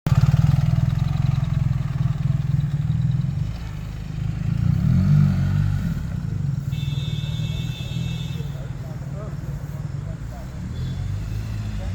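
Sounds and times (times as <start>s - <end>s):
motorcycle engine while riding: 0.1s - 11.9s.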